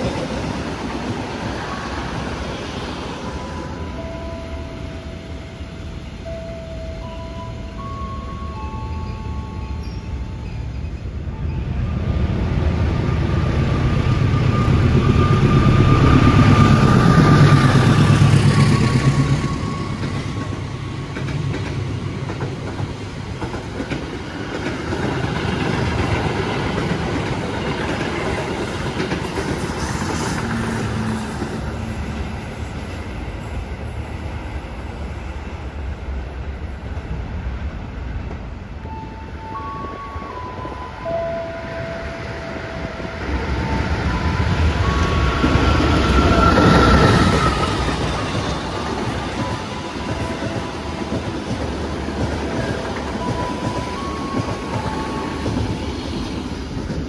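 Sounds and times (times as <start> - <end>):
passenger train passing at speed: 0.0 - 57.0.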